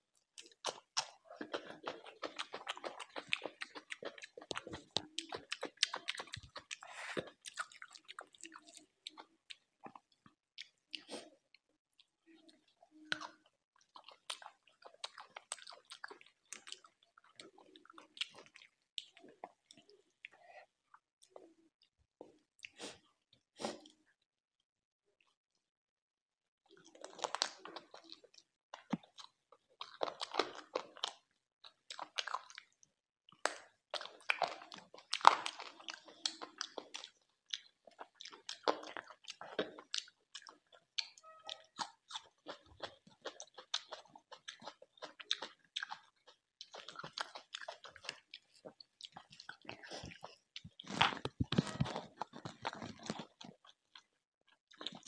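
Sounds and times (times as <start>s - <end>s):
person chewing food: 0.1s - 24.1s, 26.7s - 55.0s.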